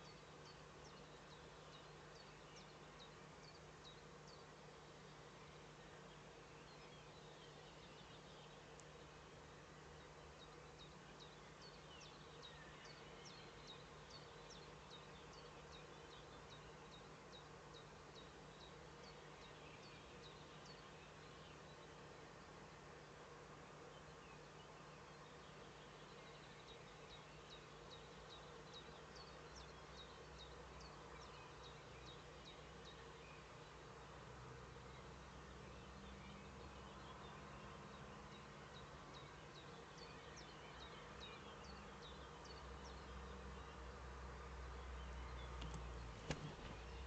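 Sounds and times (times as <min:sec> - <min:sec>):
faint steady hum: 0:00.0 - 0:47.0
songbird chirping: 0:00.0 - 0:47.0.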